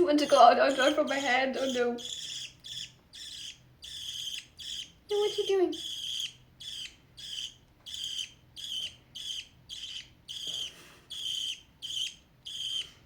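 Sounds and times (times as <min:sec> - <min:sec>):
budgerigar chirping: 0:00.0 - 0:13.0.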